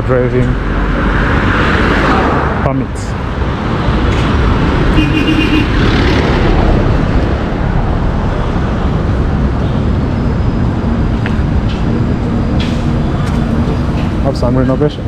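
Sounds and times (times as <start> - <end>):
vehicle engines running: 0.0 - 15.0
vehicle passing: 0.0 - 15.0.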